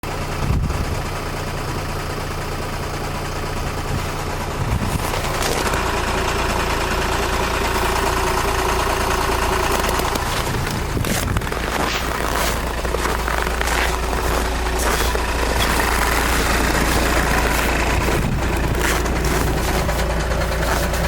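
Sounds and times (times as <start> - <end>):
diesel engine idling with knock: 0.0 - 21.0.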